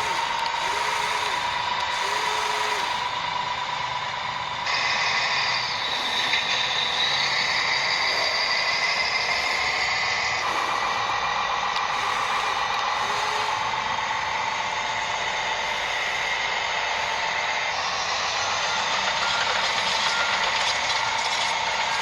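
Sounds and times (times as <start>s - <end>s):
higher motor whine: 0.0s - 22.0s
small electric motors whining: 0.0s - 22.0s.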